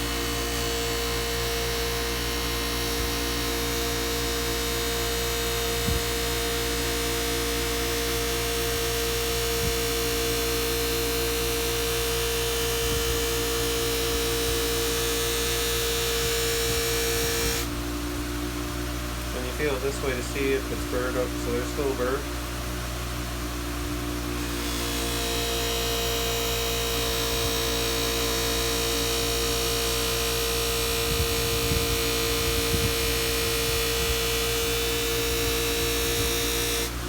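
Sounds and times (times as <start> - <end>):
bench buffer motor hum: 0.0 - 37.0.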